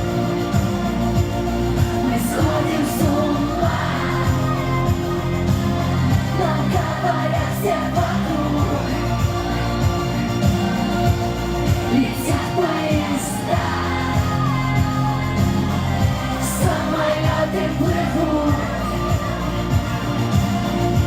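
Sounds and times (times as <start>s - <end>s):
bass notes: 0.0s - 21.0s
electronic beat: 0.0s - 21.0s
person singing: 0.0s - 21.0s.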